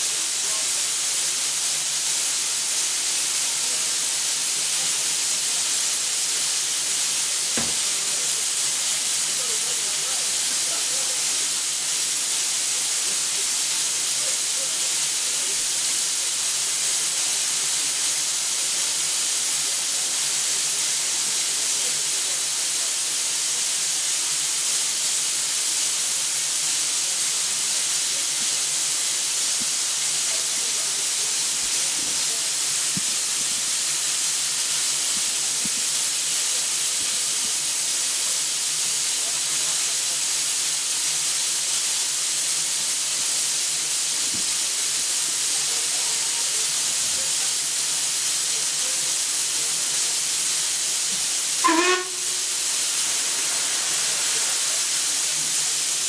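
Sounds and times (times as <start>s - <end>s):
steam hissing from locomotive: 0.0s - 56.0s.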